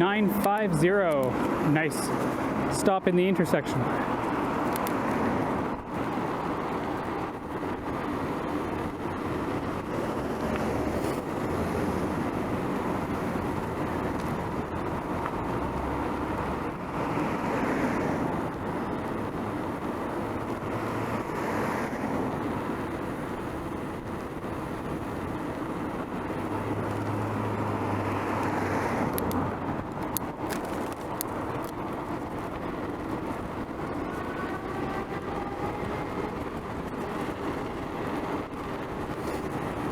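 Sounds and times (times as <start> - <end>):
motor vehicles passing: 0.0 - 39.9
road noise: 0.0 - 39.9.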